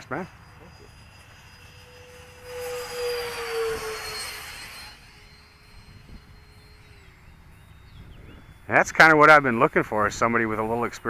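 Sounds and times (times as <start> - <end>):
model jet fan fly-by: 0.0 - 11.0.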